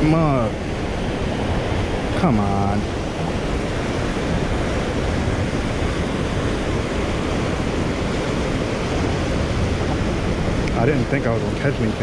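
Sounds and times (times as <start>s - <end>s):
river water rushing over spillway: 0.0s - 12.0s.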